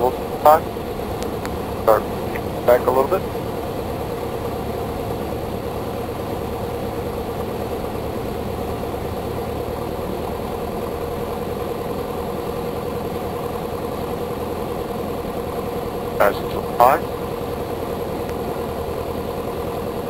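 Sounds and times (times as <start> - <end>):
airplane engine and propeller drone: 0.0 - 20.0.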